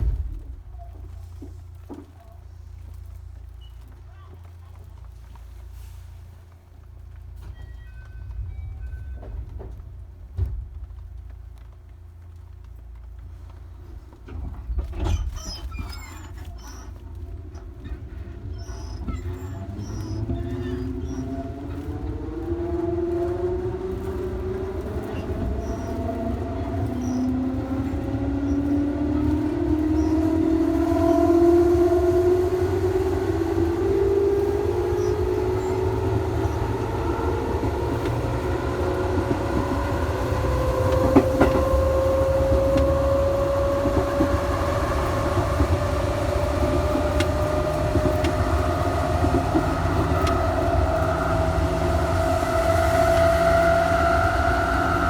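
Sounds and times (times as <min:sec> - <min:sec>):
low running rumble: 0:00.0 - 0:55.0
train motors whining: 0:00.0 - 0:55.0.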